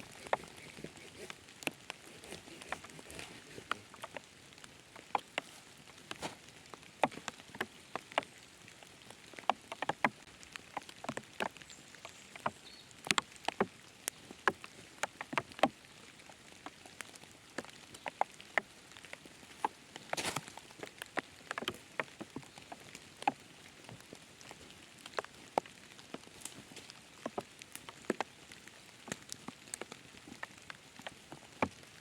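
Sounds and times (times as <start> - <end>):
faint hiss of rain: 0.0 - 32.0
raindrops dripping: 0.0 - 32.0.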